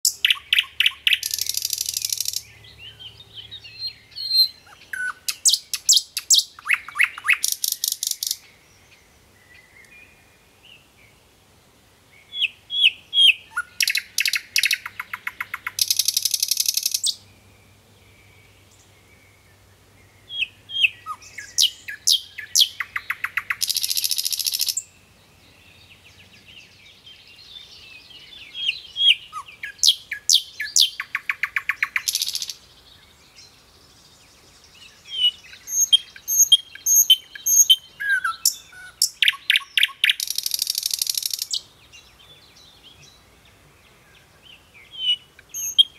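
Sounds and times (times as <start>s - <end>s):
nightingale singing: 0.0s - 11.2s, 12.1s - 45.9s.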